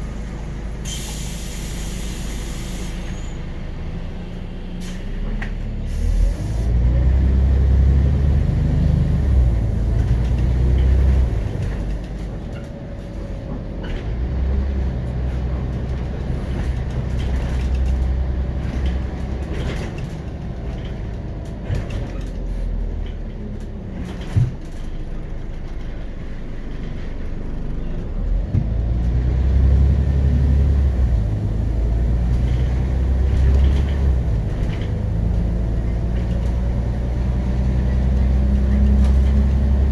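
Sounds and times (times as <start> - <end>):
bus diesel engine driving: 0.0 - 39.9.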